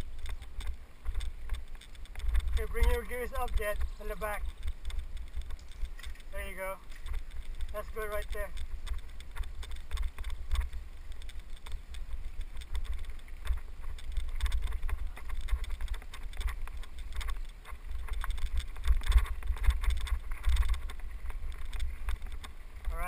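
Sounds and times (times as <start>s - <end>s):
bike clicks and rattles: 0.0s - 23.0s
tyres rolling over dirt trail: 0.0s - 23.0s
wind buffeting microphone: 0.0s - 23.0s.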